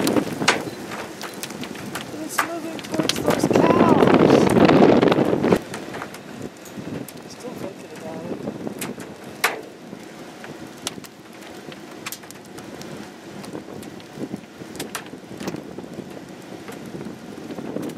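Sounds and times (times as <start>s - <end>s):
wind rushing on microphone: 0.0s - 17.9s.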